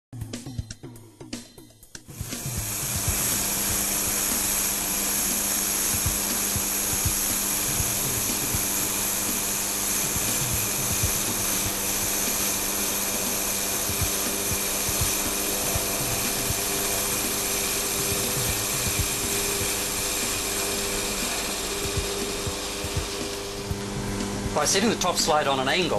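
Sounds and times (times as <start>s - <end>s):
lathe tool cutting hiss: 2.1s - 25.9s
wood lathe motor hum: 2.1s - 25.9s.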